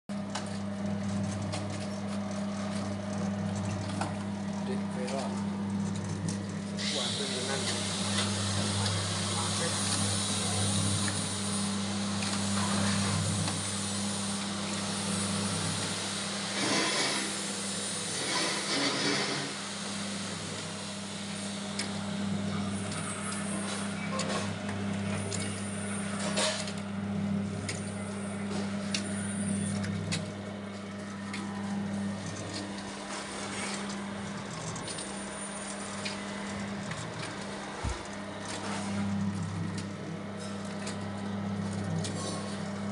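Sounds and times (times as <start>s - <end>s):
machine motor hum: 0.1s - 42.9s.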